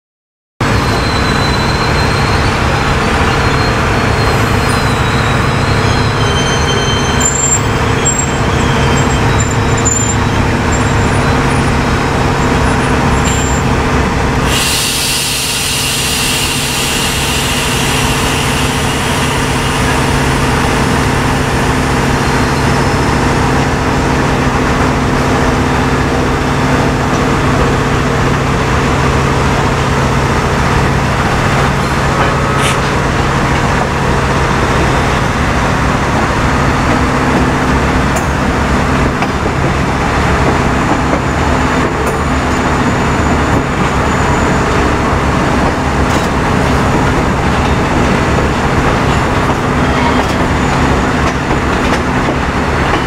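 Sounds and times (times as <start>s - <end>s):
diesel locomotive engine droning: 0.6s - 53.0s
train cars running on rails: 0.6s - 53.0s.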